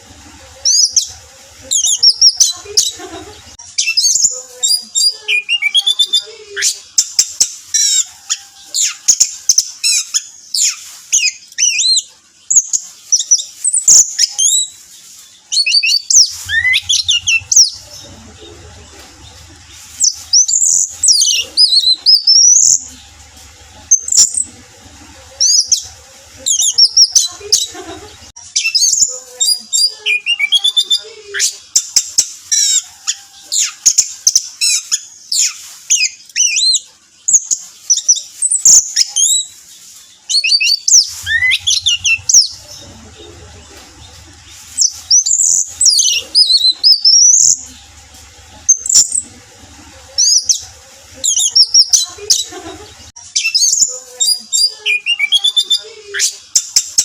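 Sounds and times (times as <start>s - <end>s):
thrush singing whistled notes: 3.6s - 18.4s, 19.3s - 27.7s, 28.5s - 57.0s.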